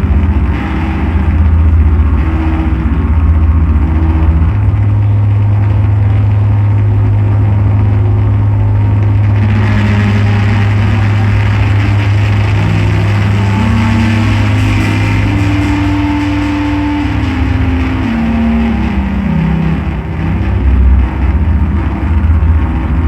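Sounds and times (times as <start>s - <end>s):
deep bass drone: 0.0s - 23.0s
shifting higher tones: 0.0s - 23.0s.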